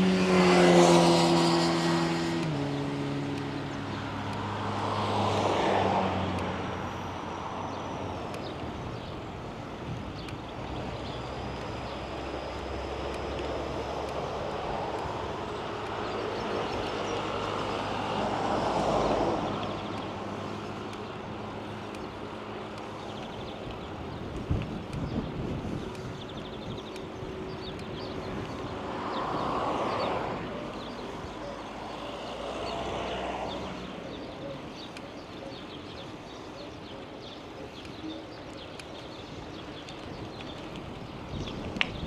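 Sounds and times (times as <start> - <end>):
vehicles passing: 0.0 - 42.0.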